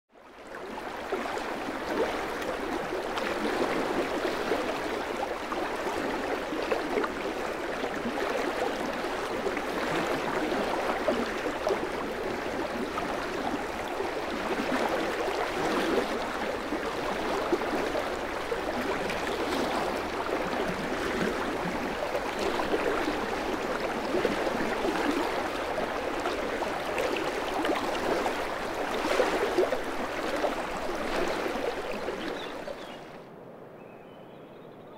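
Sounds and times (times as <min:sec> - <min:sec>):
water rushing over rocks: 0:01.2 - 0:32.8.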